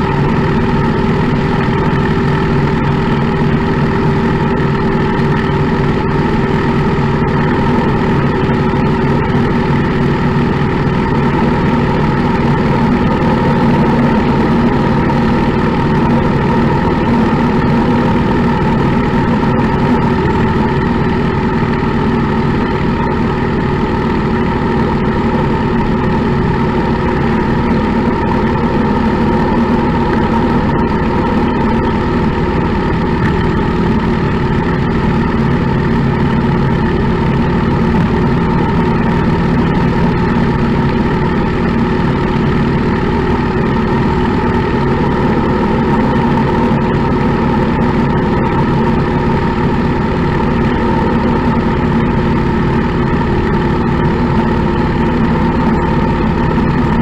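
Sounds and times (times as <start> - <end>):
motorcycle engine running steadily: 0.0 - 57.0.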